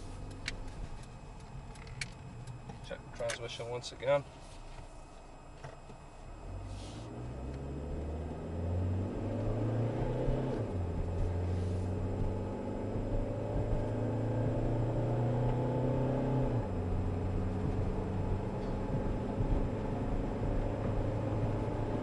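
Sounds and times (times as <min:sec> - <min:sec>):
car engine accelerating and shifting: 0:00.0 - 0:22.0.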